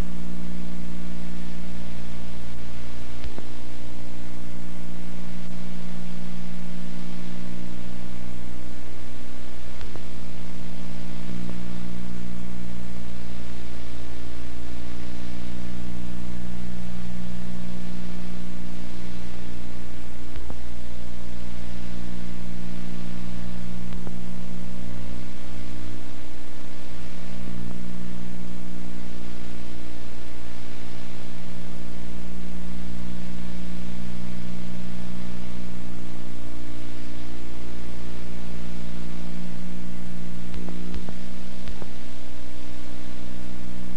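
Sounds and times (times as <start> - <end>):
electrical mains hum: 0.0 - 43.9
tape hiss: 0.0 - 43.9.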